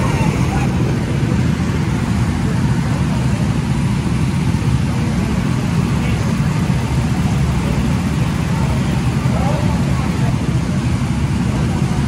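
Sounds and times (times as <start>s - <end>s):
go-kart engines idling: 0.0s - 12.0s.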